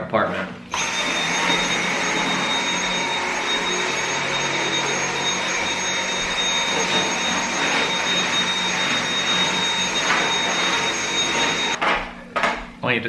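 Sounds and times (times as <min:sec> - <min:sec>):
cordless vacuum running: 0:00.7 - 0:11.8.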